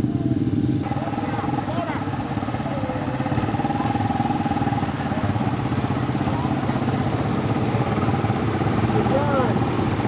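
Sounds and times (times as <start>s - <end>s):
small off-road engines puttering: 0.0s - 10.0s.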